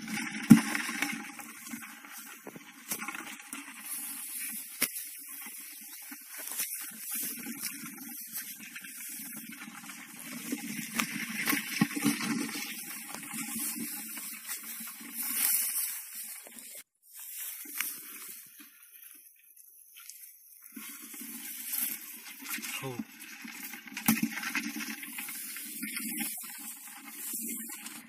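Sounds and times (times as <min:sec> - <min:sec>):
rustling of rice plants: 0:00.6 - 0:28.0.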